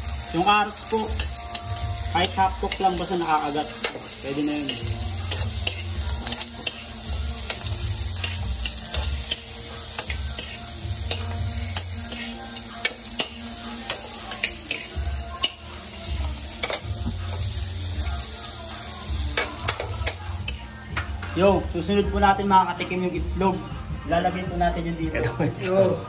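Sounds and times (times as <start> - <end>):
vegetables sizzling in oil: 0.0 - 24.9.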